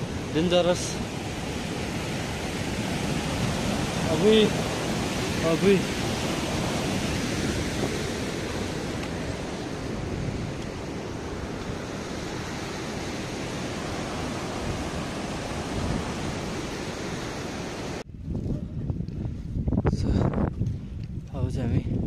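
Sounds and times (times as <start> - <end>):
mountain stream rushing: 0.0 - 18.0
wind buffeting microphone: 0.0 - 22.0.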